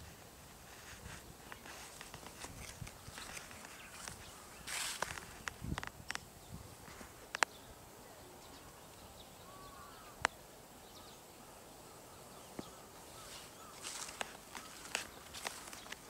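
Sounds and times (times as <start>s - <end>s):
distant bird chirp: 1.4s - 16.0s.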